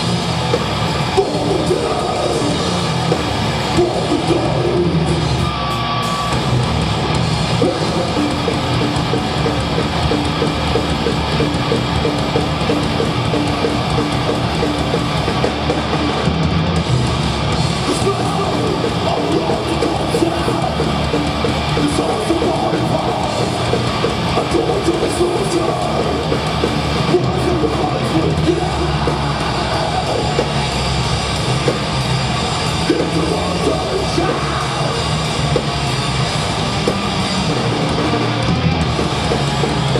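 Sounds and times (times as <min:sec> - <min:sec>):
distorted electric guitars: 0:00.0 - 0:39.9
drums: 0:00.0 - 0:39.9.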